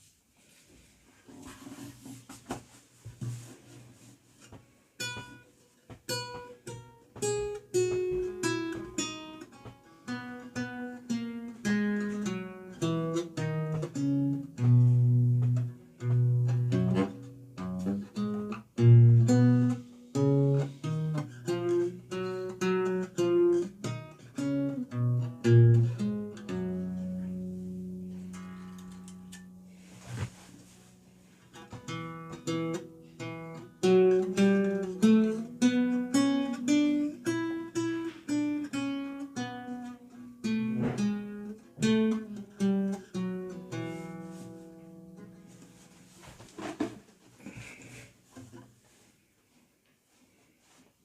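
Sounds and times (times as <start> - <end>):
lute plucked notes: 5.0 - 46.2.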